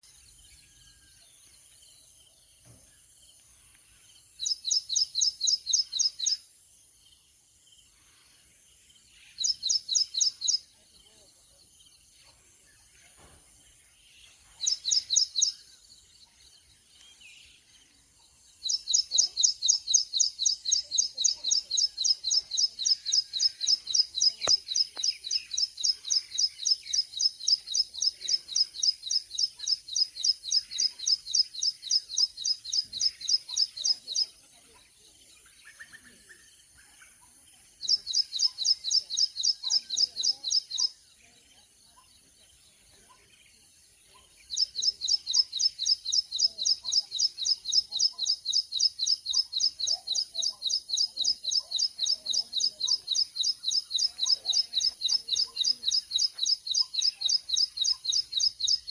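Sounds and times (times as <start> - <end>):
bird chirping: 0.0 - 58.9.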